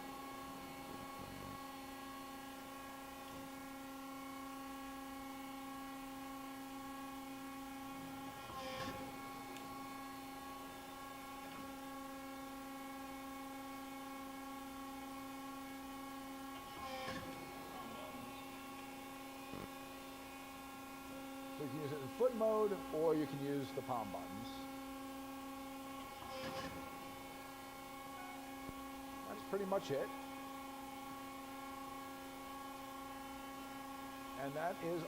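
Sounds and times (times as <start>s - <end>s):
hydraulic unit humming: 0.0s - 35.0s.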